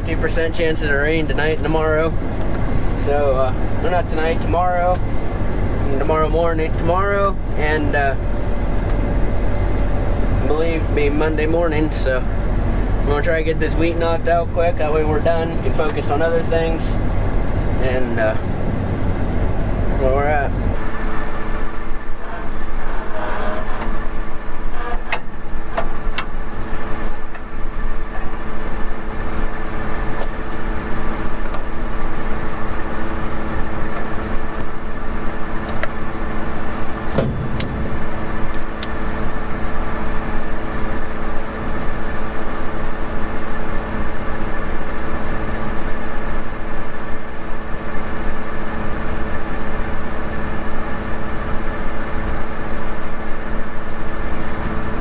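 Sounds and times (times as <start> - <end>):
vehicle engine running: 0.0 - 24.7, 25.3 - 55.0
steady whine: 0.0 - 55.0.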